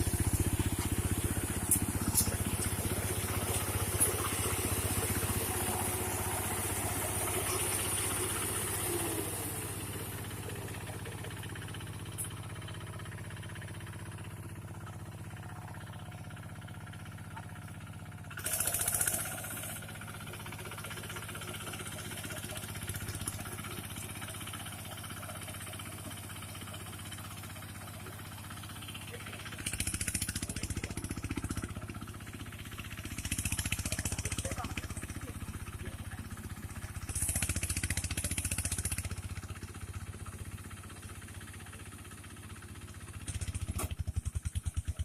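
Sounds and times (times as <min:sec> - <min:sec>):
harvesting machine engine running: 0:00.0 - 0:45.0.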